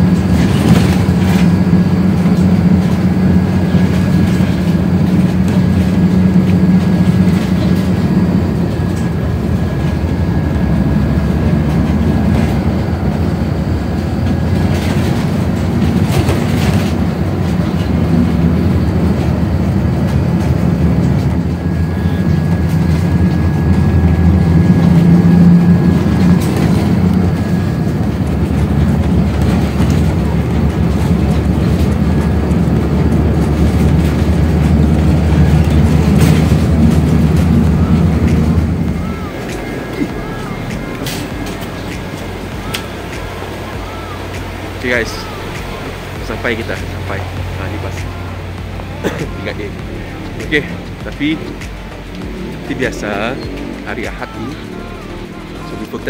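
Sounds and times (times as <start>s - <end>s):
bus engine drone and road rumble: 0.0s - 56.0s.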